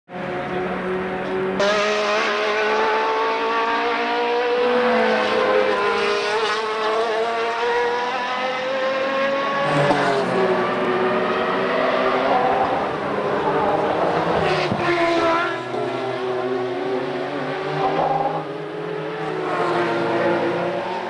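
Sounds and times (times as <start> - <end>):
race cars accelerating: 0.1 - 21.0.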